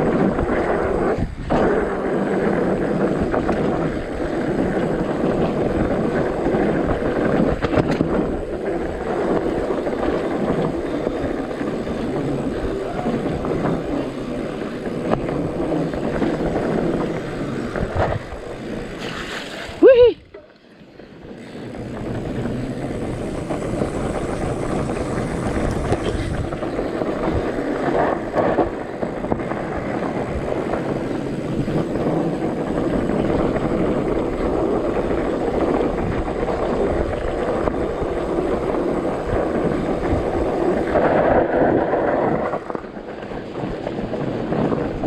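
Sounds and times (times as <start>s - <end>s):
bike tyres on dirt: 0.0s - 45.0s
wind rush on microphone: 0.0s - 45.0s.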